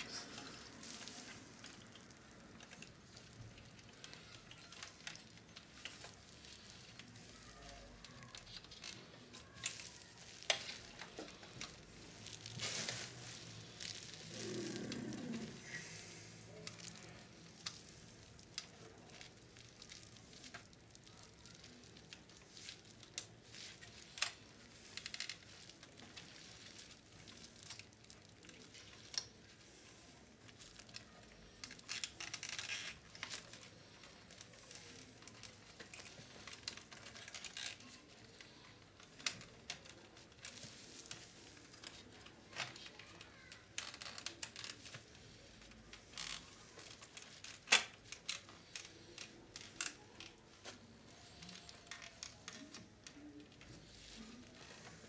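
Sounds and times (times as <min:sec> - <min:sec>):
hands rustling parts and wiring: 0:00.0 - 0:55.0.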